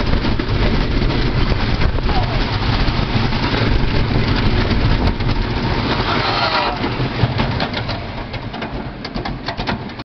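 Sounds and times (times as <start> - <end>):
wind rushing: 0.0 - 8.4
roller coaster rumbling and rattling: 0.0 - 10.0.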